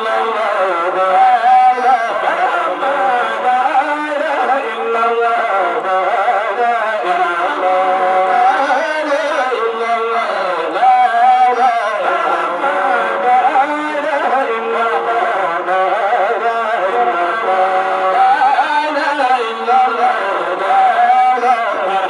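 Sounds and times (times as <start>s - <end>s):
lead singer melismatic singing: 0.0s - 22.0s
men chanting a hymn: 0.0s - 22.0s.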